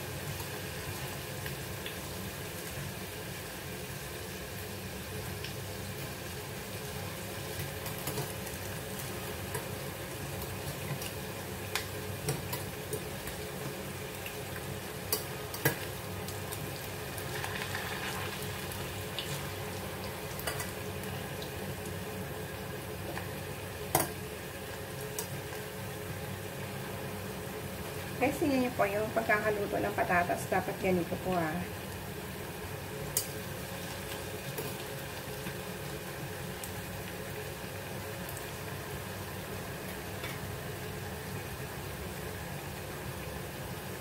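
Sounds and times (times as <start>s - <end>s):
potatoes sizzling in hot oil: 0.0s - 44.0s.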